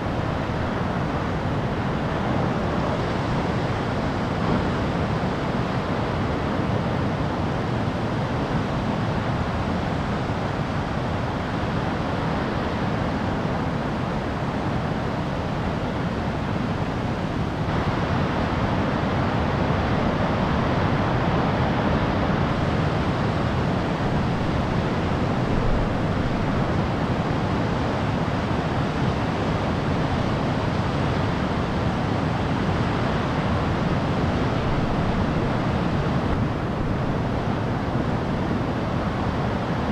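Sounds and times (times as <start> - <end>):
ocean surf roaring: 0.0 - 39.9
wind on microphone: 0.0 - 39.9.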